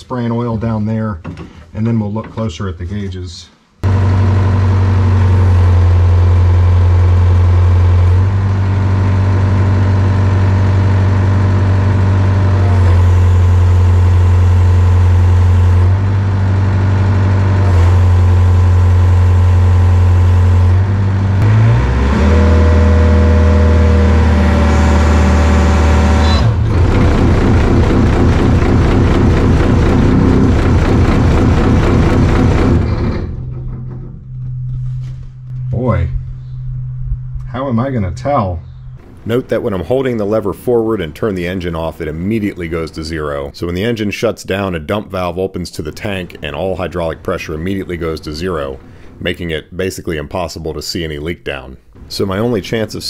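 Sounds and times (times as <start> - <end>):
diesel engine running: 3.8 - 37.6, 38.8 - 43.9, 45.8 - 49.5.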